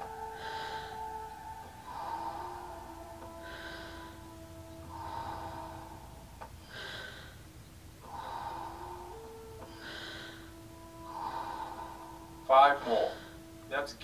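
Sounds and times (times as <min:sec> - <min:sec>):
forceful breathing through mouth: 0:00.0 - 0:13.6
soft music drone: 0:00.0 - 0:14.0.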